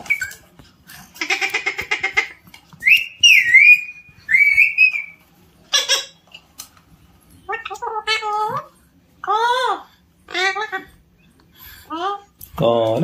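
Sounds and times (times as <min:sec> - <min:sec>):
parakeet calling: 0:00.0 - 0:06.5, 0:07.4 - 0:12.3.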